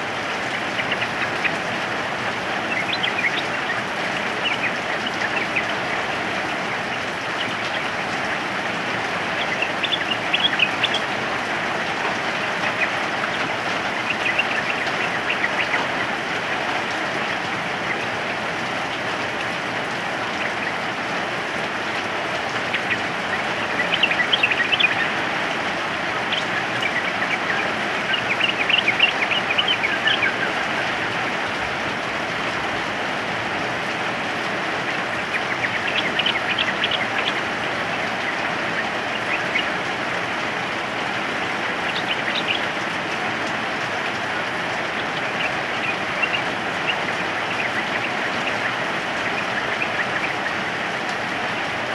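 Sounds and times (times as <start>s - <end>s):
birds chirping: 0.0s - 51.9s
rain hissing: 0.0s - 51.9s.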